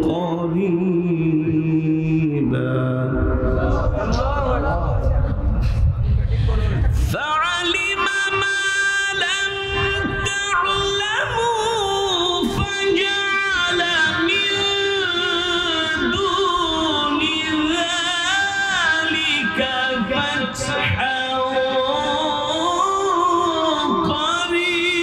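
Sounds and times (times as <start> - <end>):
man chanting melodically: 0.0 - 5.3, 7.1 - 25.0.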